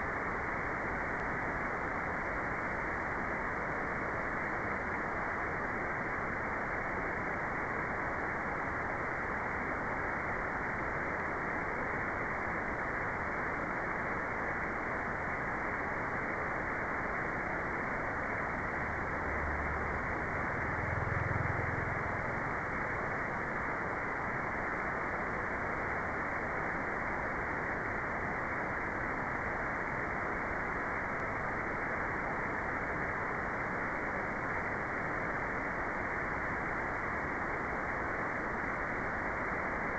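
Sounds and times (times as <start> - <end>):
dull white noise hiss: 0.0 - 39.9.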